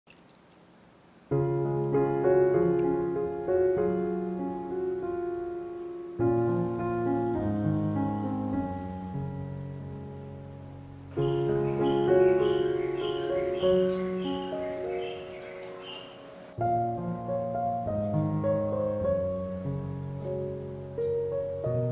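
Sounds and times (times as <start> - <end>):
soft solo piano music: 1.3 - 21.9.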